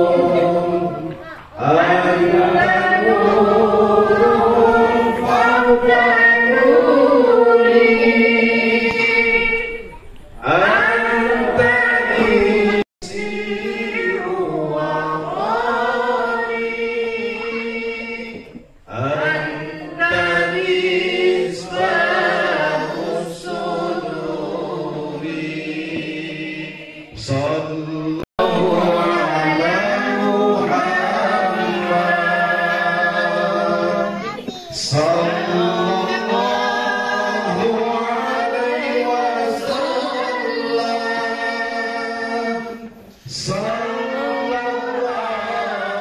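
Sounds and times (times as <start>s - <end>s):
group of voices singing: 0.0s - 46.0s.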